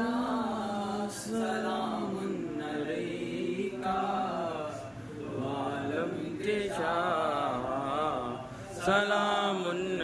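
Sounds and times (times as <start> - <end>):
men chanting together: 0.0 - 10.0.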